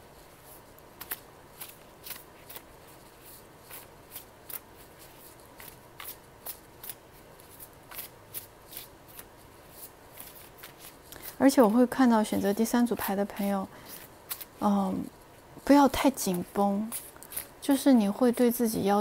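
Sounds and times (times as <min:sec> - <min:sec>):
cards being shuffled: 0:00.2 - 0:13.2, 0:13.8 - 0:14.6, 0:15.6 - 0:17.6.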